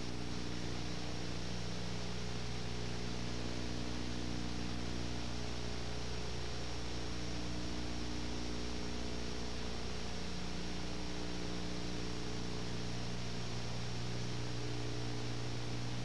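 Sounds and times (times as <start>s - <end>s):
constant hiss: 0.0s - 16.0s
electrical hum: 0.0s - 16.0s.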